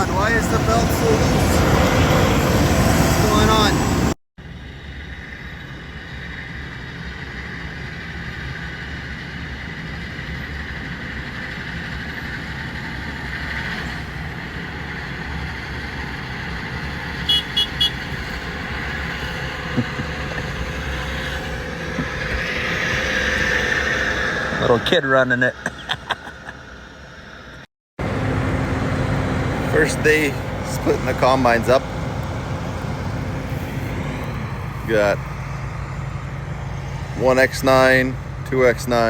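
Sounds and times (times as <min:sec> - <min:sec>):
large engine droning: 0:00.0 - 0:39.0.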